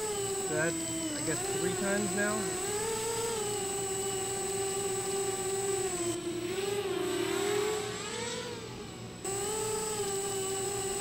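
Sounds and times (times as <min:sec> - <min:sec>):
drone motors buzzing: 0:00.0 - 0:11.0.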